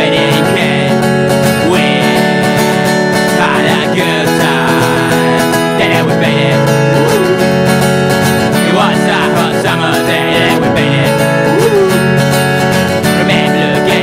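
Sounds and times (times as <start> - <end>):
acoustic guitar strumming: 0.0 - 14.0
bending melody line: 0.0 - 14.0.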